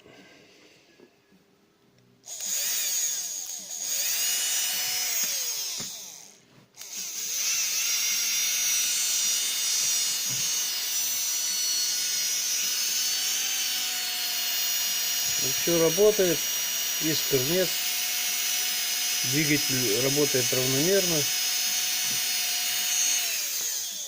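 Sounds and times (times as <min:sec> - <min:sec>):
small electric motor whining: 0:02.2 - 0:24.0.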